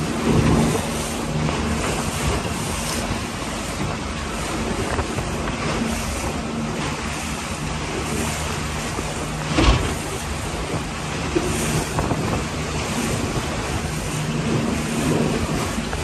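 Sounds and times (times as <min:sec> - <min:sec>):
hull slapping a wave: 0:00.0 - 0:16.0
outboard motor humming: 0:00.0 - 0:16.0
water rushing along hull: 0:00.0 - 0:16.0
wind on microphone: 0:00.0 - 0:16.0.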